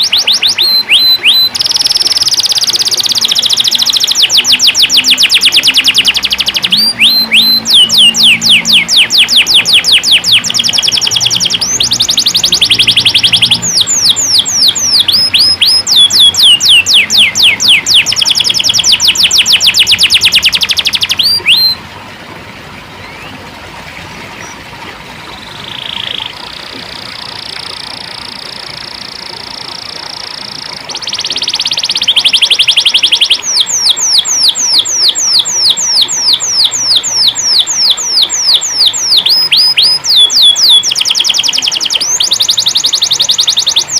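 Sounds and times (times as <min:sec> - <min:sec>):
canary singing trills: 0:00.0 - 0:21.8, 0:25.3 - 0:43.9.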